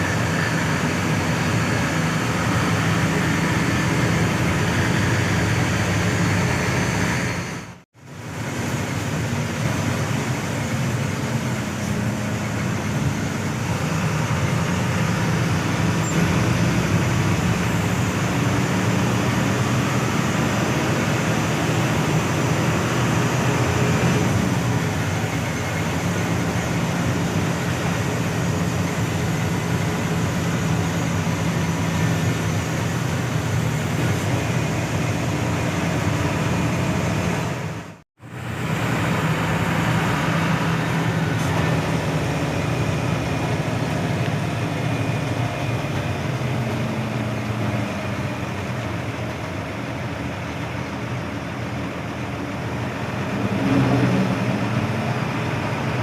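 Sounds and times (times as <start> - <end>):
bus engine hum: 0.0 - 56.0
road and tyre noise: 0.0 - 56.0.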